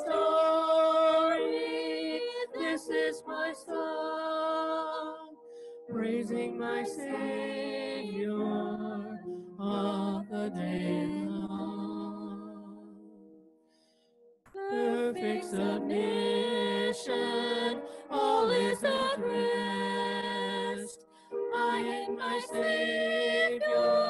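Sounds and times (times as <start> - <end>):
voices singing a hymn: 0.0 - 13.2, 14.6 - 24.0.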